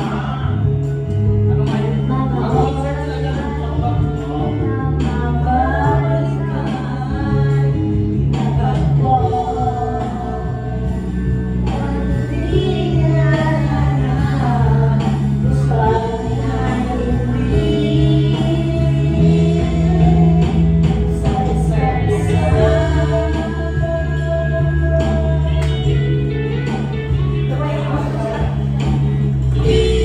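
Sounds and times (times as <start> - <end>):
backing track over sound system: 0.0 - 30.0
person singing into a microphone: 0.0 - 30.0.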